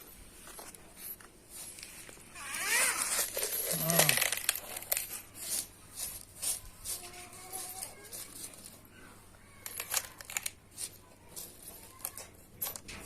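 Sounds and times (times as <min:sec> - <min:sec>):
scraping and rustling: 0:00.0 - 0:13.0.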